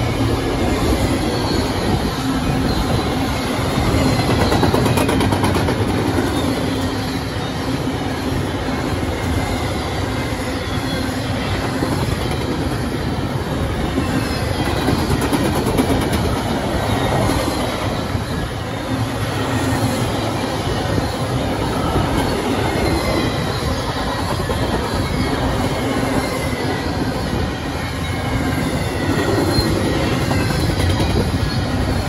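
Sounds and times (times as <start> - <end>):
steel train wheels on rails: 0.0 - 32.0.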